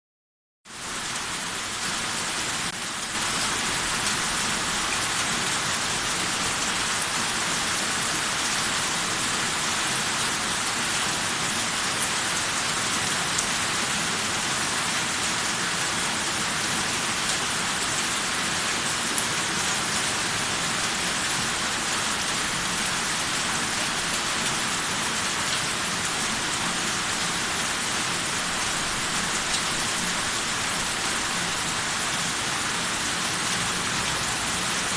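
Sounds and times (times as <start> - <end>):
steady rain falling: 0.7 - 34.9.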